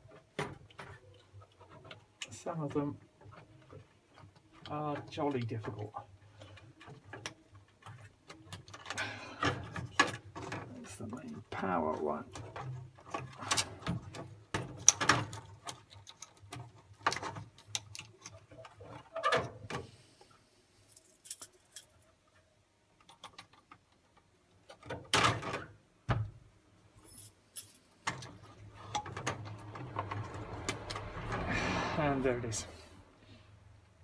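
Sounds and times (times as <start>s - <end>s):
wires and plastic rustling: 0.0s - 26.1s, 26.9s - 32.8s.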